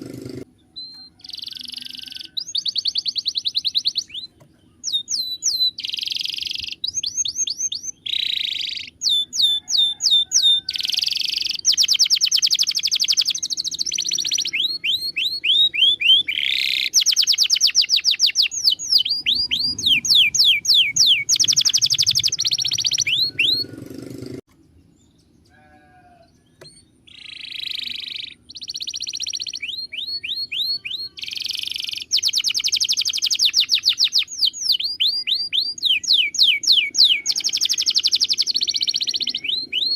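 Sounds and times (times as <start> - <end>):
canary singing: 0.0 - 24.4, 25.5 - 39.9.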